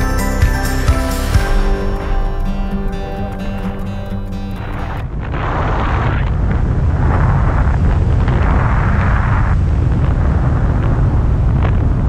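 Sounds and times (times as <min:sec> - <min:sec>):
wind buffeting microphone: 0:02.0 - 0:12.0.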